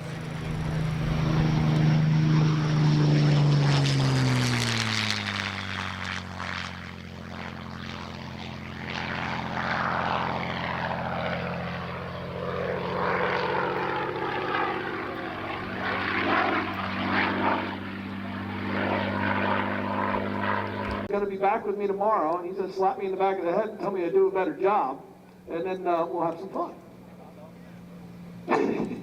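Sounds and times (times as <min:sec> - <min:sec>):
distant propeller plane engine drone: 0:00.0 - 0:29.0.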